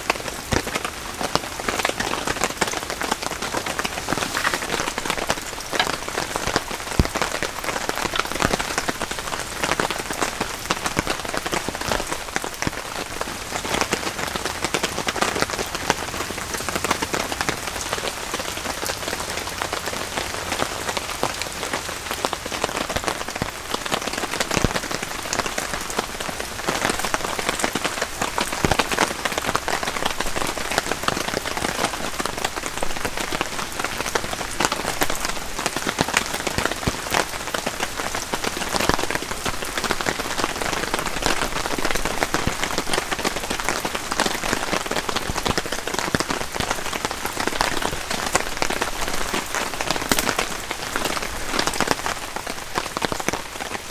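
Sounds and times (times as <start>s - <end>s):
rain falling: 0.0s - 53.9s
raindrops tapping: 0.0s - 53.9s.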